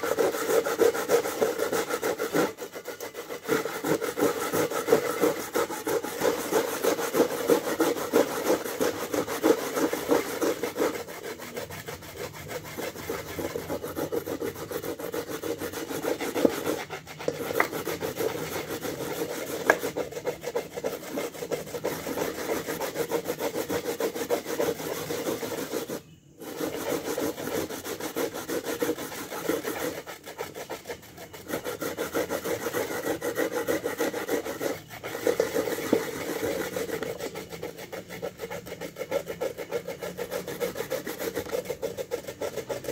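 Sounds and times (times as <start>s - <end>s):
coconut being grated: 0.0s - 42.9s.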